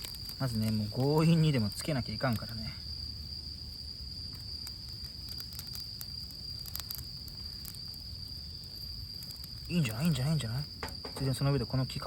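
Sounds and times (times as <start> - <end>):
campfire crackling: 0.0 - 11.4
night insects trilling: 0.0 - 12.0.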